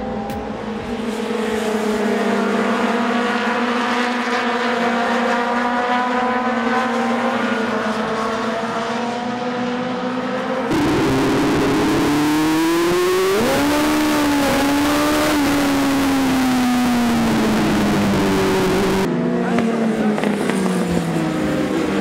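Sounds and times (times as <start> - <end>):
racing motorcycles at full throttle: 0.0 - 22.0.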